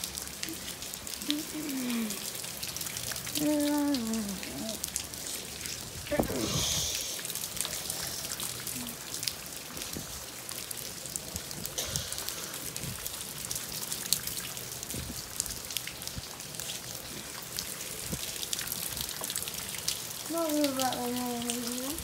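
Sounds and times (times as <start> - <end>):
heavy rain falling: 0.0 - 22.0
raindrops ticking close by: 0.0 - 22.0.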